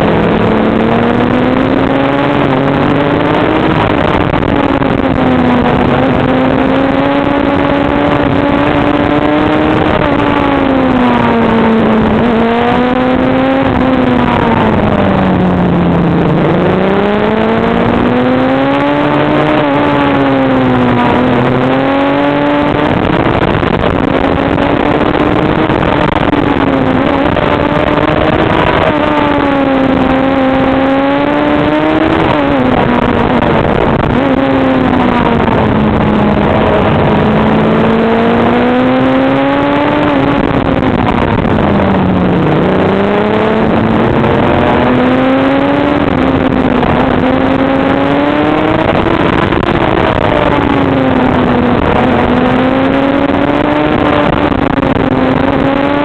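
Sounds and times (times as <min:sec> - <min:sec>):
motorcycle engine revving: 0:00.0 - 0:56.0
rushing wind: 0:00.0 - 0:56.0.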